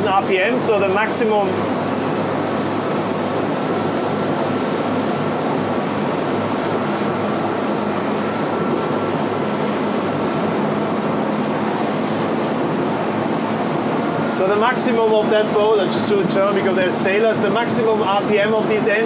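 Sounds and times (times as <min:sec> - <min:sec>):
outboard engine drone: 0:00.0 - 0:19.0
rush of wind and water: 0:00.0 - 0:19.0.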